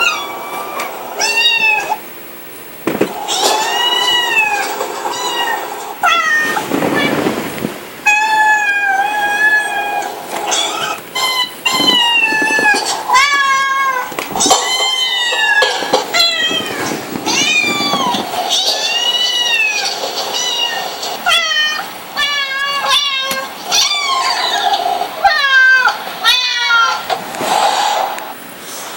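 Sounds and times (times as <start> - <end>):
cat meowing: 0.0 - 2.0, 3.2 - 7.4, 8.0 - 27.0.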